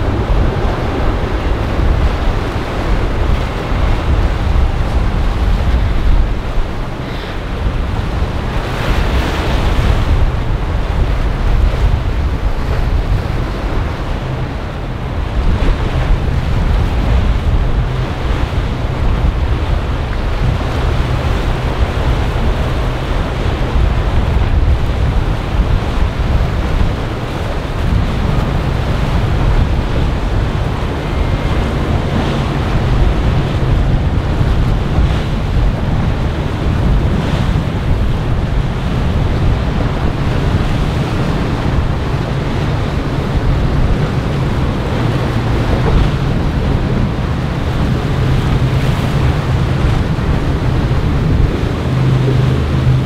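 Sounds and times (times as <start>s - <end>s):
boat engines droning: 0.0s - 53.0s
waves washing: 0.0s - 53.0s
wind buffeting microphone: 0.0s - 53.0s.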